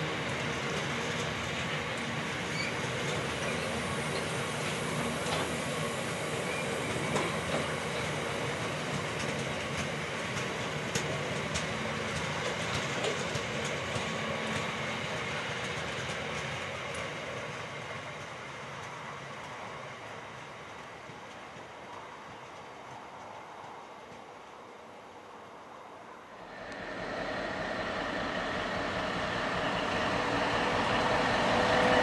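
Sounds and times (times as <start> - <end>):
train wheels rumbling on rails: 0.0 - 25.6, 26.4 - 32.0.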